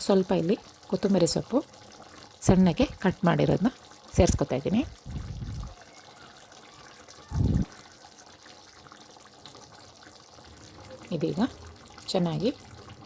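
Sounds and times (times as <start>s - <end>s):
curry simmering in a pan: 0.0s - 13.0s.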